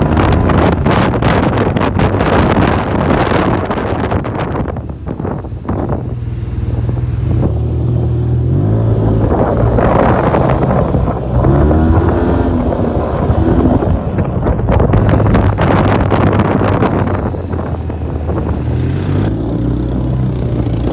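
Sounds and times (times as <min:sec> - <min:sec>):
wind on microphone: 0:00.0 - 0:20.9.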